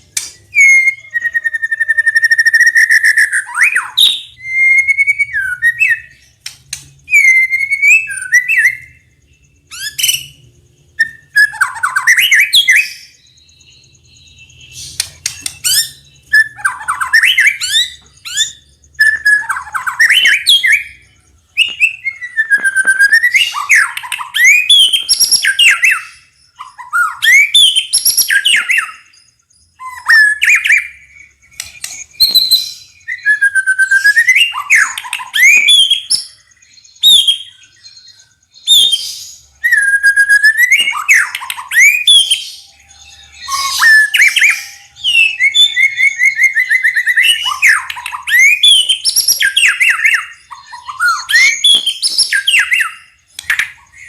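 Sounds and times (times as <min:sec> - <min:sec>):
bird singing whistles and chatter: 0:00.0 - 0:54.0.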